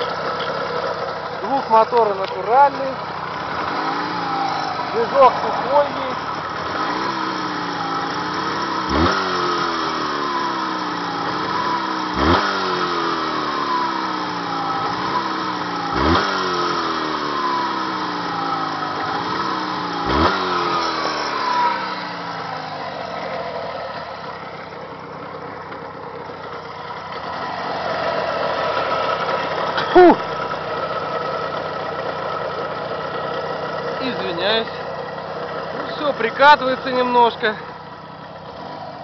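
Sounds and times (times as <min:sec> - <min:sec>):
two-stroke engine revving and idling: 0:00.0 - 0:39.0.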